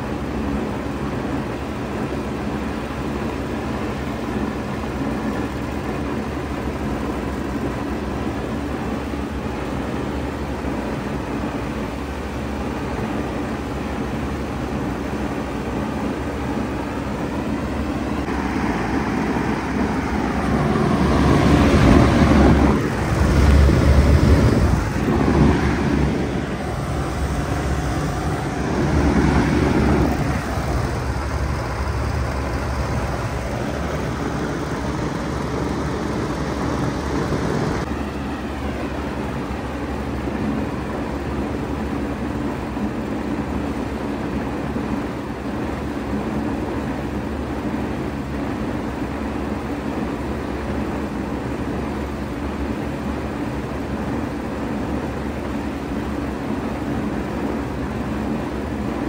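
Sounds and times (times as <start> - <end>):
compressor hum: 0.0 - 59.0
outdoor fan rushing: 0.0 - 59.0.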